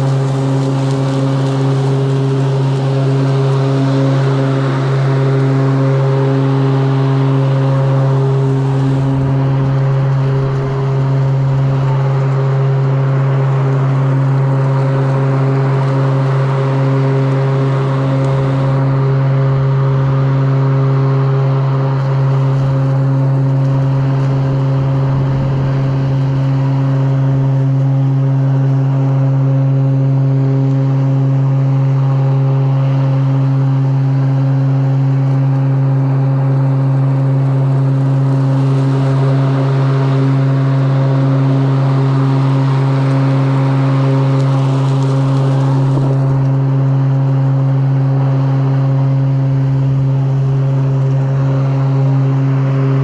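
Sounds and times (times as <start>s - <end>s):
electric lawn mower humming: 0.0s - 53.0s.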